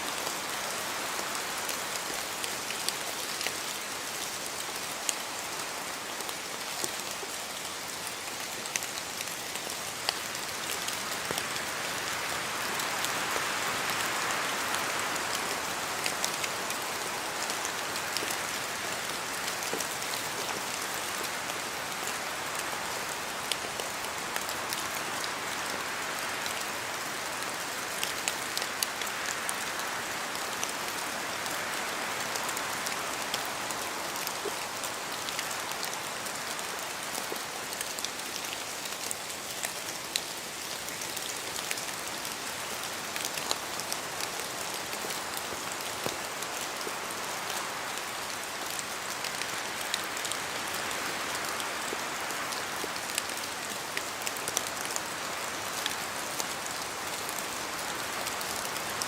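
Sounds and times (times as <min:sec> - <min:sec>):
rain hissing in forest: 0:00.0 - 0:59.0.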